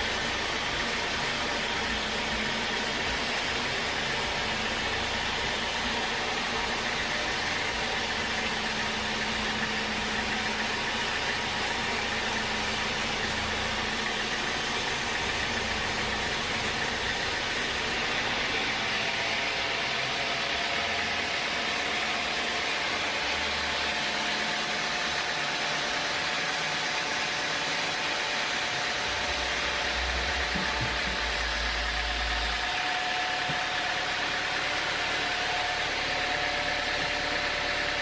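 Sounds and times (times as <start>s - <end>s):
sawmill machinery motor: 0.0s - 38.0s.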